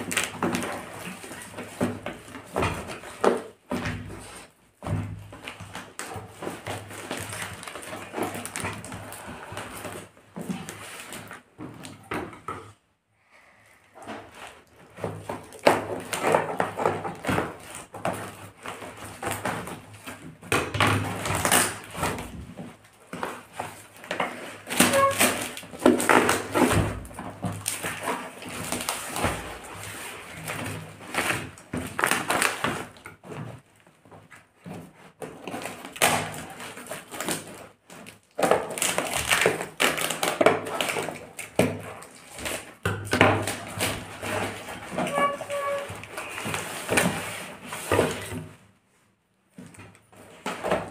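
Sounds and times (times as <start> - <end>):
cardboard ripping and rustling: 0.0 - 12.0, 14.0 - 48.6.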